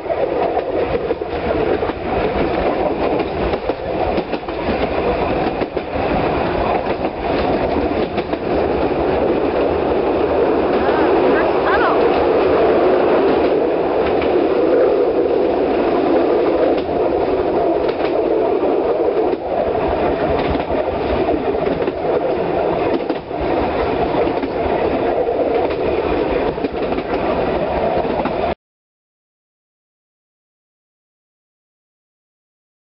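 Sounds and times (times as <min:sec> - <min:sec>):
train wheels rumbling and rattling: 0:00.0 - 0:28.6
wheels clicking over rails: 0:00.2 - 0:28.5.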